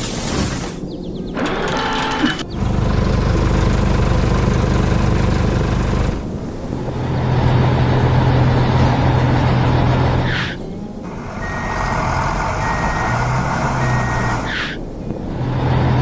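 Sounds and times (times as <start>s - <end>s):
heavy machine engine running: 1.4s - 16.0s.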